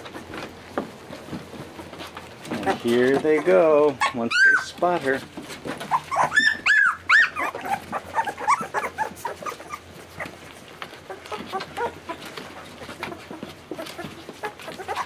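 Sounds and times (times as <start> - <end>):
puppies whimpering and squeaking: 0.0 - 15.0.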